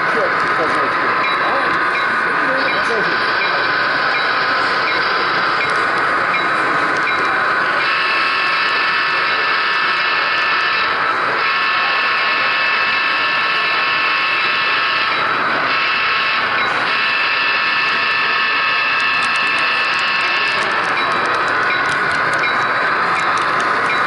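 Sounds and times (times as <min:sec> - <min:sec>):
model train whining and rolling: 0:00.0 - 0:24.0.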